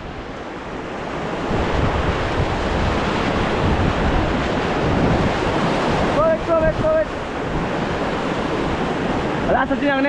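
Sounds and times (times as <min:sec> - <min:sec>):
rushing whitewater: 0:00.0 - 0:10.0
wind buffeting microphone: 0:00.0 - 0:10.0.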